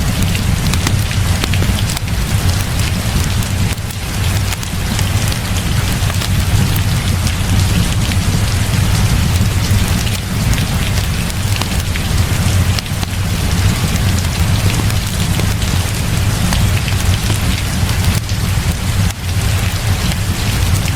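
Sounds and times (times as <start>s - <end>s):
heavy rain falling: 0.0s - 20.9s
ticks of raindrops: 0.0s - 20.9s.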